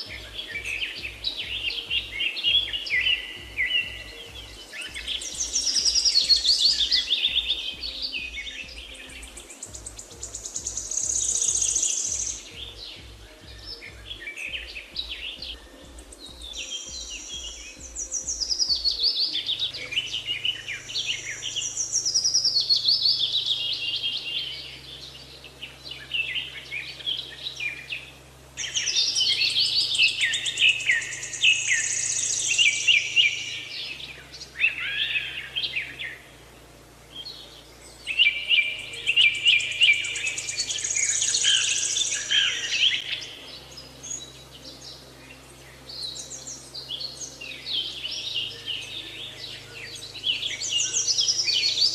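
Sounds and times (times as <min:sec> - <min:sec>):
faint low music tones: 0:00.0 - 0:51.9
songbirds chirping and trilling: 0:00.0 - 0:51.9.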